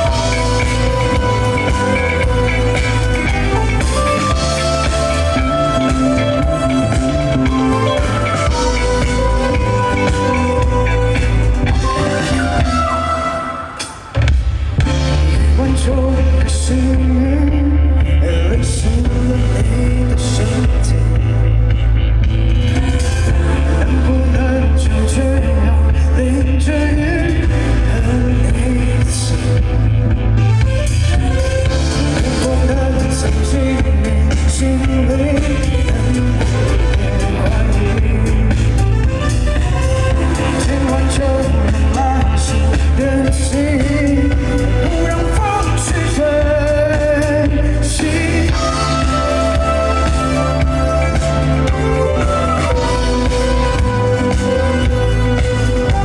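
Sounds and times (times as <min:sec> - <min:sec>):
person singing: 0:00.0 - 0:21.4, 0:22.6 - 0:29.7, 0:30.8 - 0:56.0
live band playing indie-pop: 0:00.0 - 0:56.0.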